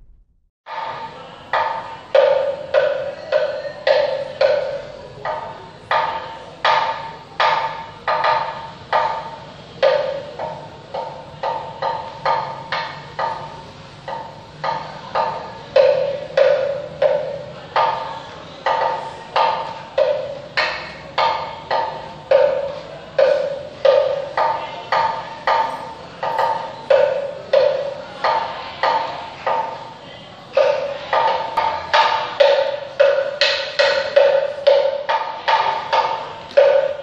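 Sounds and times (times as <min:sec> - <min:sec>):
wooden percussion knocks: 0:00.0 - 0:29.9, 0:30.5 - 0:37.0.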